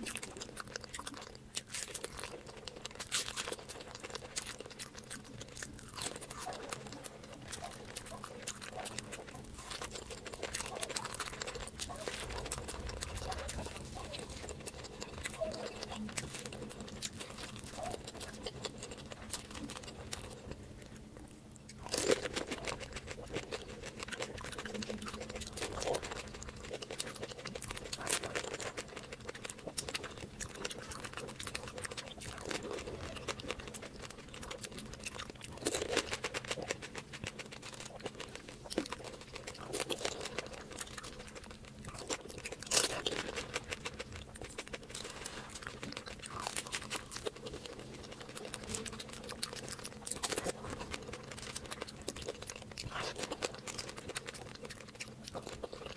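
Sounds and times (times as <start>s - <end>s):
chewing: 0.0s - 55.9s
crunchy bites of snacks: 0.0s - 55.9s.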